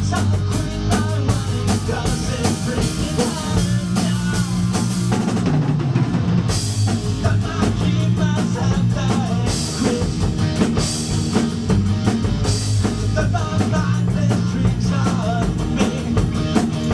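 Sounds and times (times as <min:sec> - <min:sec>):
rock band playing: 0:00.0 - 0:16.9.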